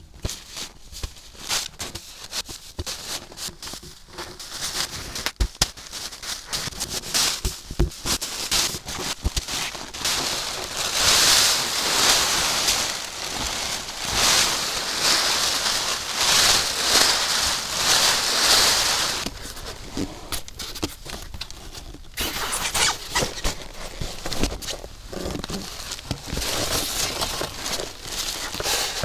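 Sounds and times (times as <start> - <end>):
bag crinkling and clicks: 0.2 - 29.0
tent fabric rustling: 0.2 - 29.0.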